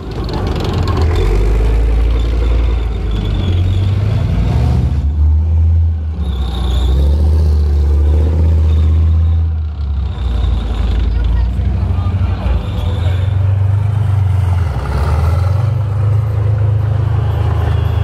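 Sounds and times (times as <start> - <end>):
tank diesel engine droning: 0.0 - 18.0.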